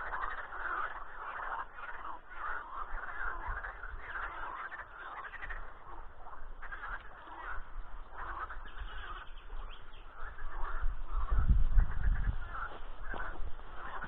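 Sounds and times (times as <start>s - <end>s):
frogs calling in chorus: 0.0s - 14.0s.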